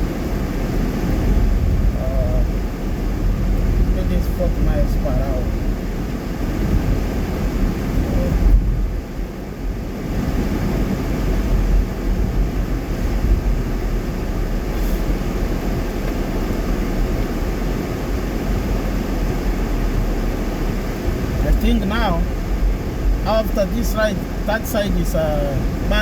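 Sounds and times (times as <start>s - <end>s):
road and tyre noise in car: 0.0s - 26.0s.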